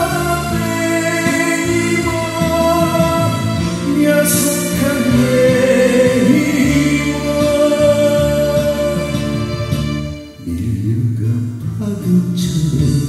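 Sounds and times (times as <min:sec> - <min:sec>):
acoustic guitar: 0:00.0 - 0:13.0
man singing ballad: 0:00.0 - 0:13.0.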